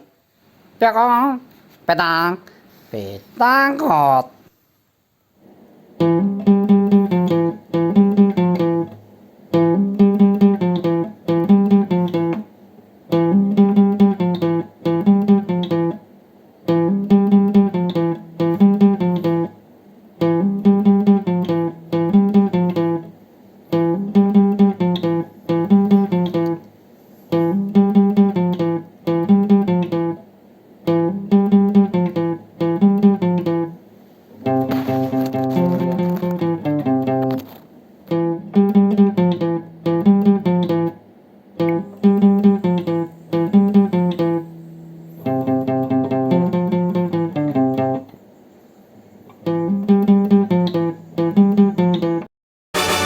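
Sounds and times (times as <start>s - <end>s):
acoustic guitar strumming: 6.0s - 33.8s, 34.4s - 41.0s, 41.6s - 48.1s, 49.3s - 53.0s.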